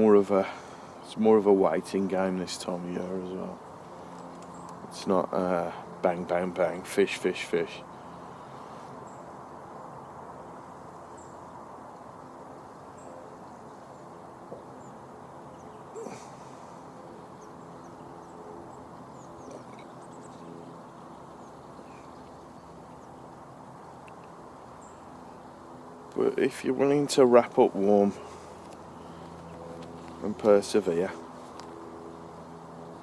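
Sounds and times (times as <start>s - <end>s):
outdoor background hum: 0.0s - 33.0s.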